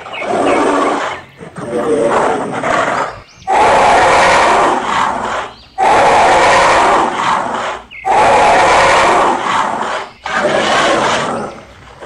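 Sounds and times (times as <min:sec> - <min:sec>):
animal roars: 0:00.0 - 0:12.0.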